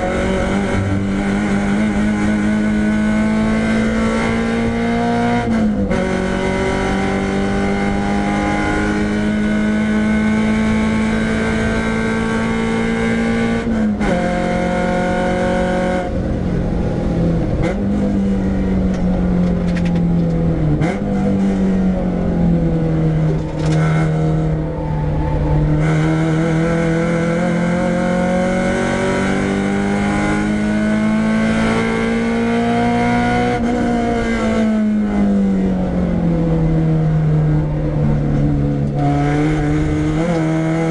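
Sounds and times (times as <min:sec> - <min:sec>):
car engine revving: 0:00.0 - 0:40.9
road and wind noise: 0:00.0 - 0:40.9.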